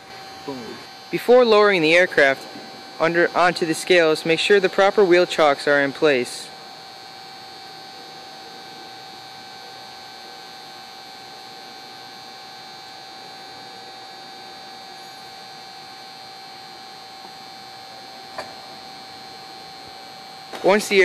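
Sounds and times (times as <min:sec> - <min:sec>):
electrical hum with whining tones: 0:00.0 - 0:21.0.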